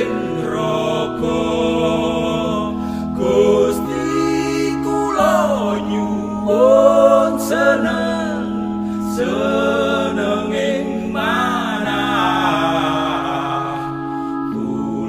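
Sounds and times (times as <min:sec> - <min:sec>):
held chords: 0:00.0 - 0:15.0
person singing devotional song: 0:00.0 - 0:15.0.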